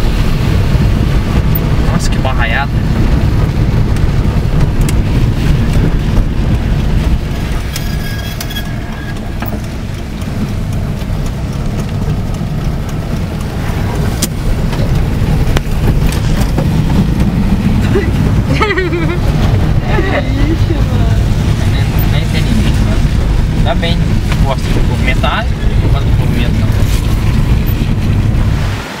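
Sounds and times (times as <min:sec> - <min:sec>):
engine and tyres rumbling on wet road: 0:00.0 - 0:29.0.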